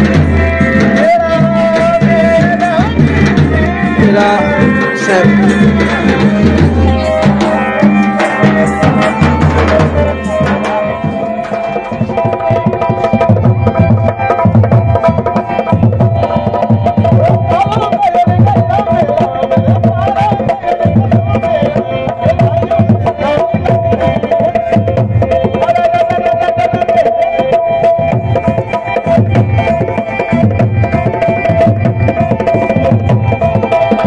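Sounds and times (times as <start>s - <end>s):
drum beat: 0.0s - 34.0s
wavering folk melody: 0.0s - 34.0s.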